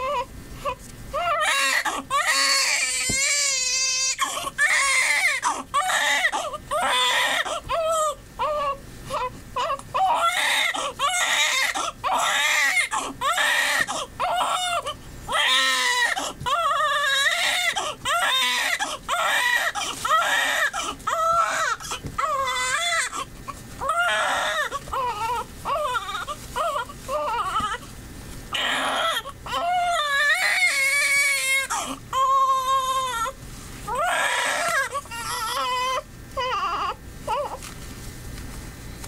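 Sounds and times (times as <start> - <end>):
newborn baby crying: 0.0 - 27.8, 28.5 - 37.6.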